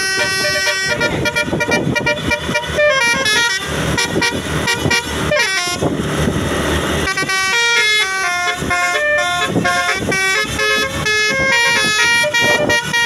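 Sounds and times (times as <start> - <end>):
bus multi-tone horn playing tune: 0.0 - 13.0
rushing noise: 0.0 - 13.0.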